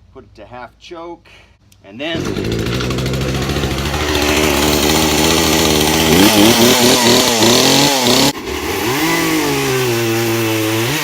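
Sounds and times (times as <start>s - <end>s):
chainsaw revving and cutting wood: 2.1s - 11.0s.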